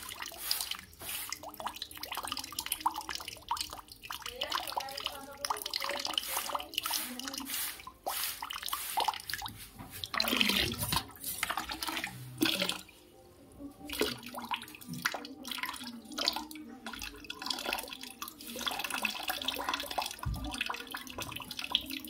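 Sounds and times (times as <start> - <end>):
water drips: 0.0 - 22.0
water trickling and splashing: 0.0 - 22.0.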